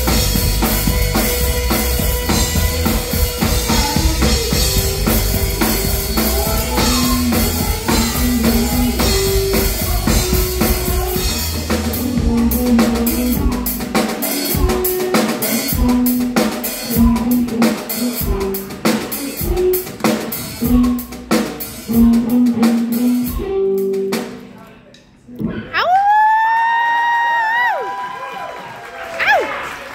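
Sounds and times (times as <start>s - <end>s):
drum kit: 0.0s - 25.7s.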